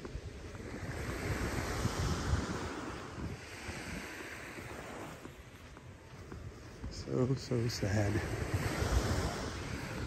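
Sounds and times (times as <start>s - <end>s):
surf washing onto beach: 0.0s - 10.0s
wind rumbling on microphone: 0.0s - 10.0s.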